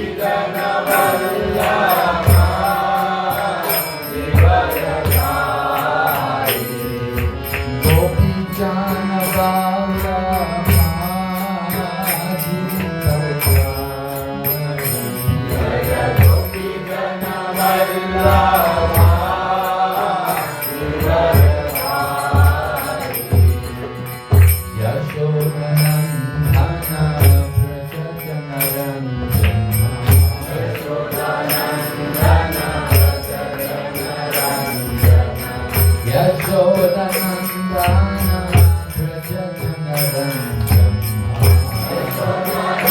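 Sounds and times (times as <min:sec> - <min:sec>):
person singing devotional song: 0:00.0 - 0:42.9.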